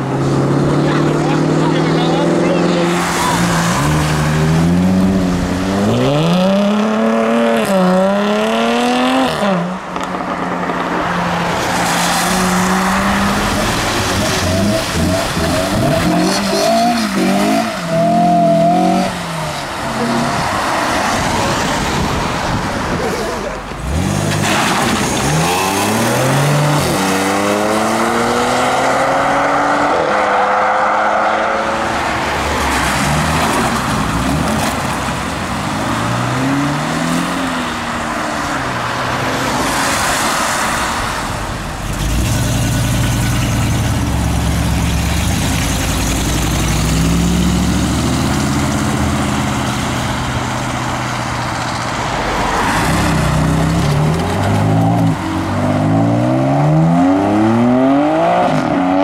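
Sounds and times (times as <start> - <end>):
sports car engines accelerating: 0.0 - 59.0.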